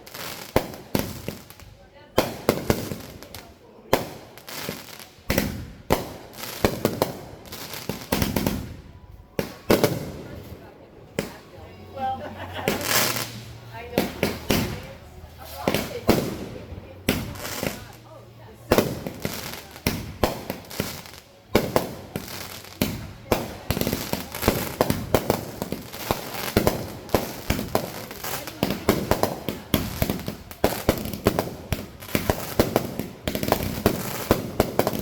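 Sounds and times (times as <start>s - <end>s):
fireworks bangs and pops: 0.0s - 8.8s, 9.4s - 10.6s, 11.2s - 11.5s, 12.6s - 35.0s.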